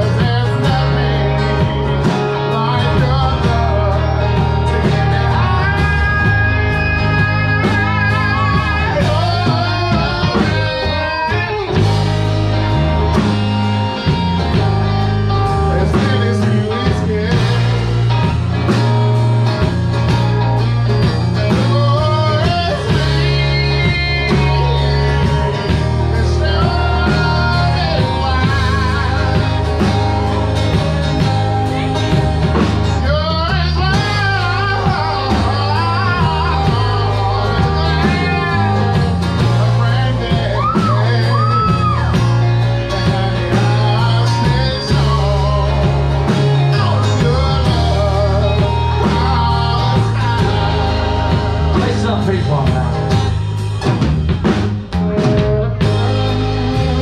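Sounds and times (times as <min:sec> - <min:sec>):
person singing: 0:00.0 - 0:53.4, 0:54.9 - 0:57.0
blues-rock band playing: 0:00.0 - 0:57.0.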